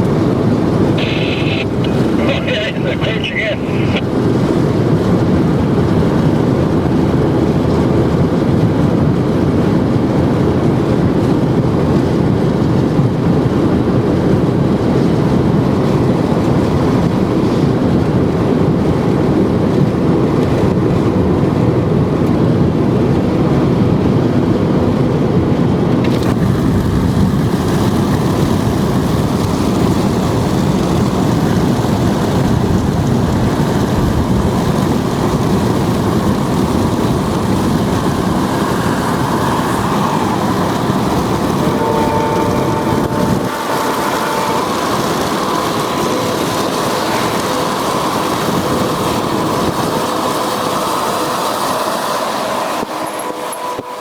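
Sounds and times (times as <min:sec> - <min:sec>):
car road and wind roar: 0:00.0 - 0:54.0.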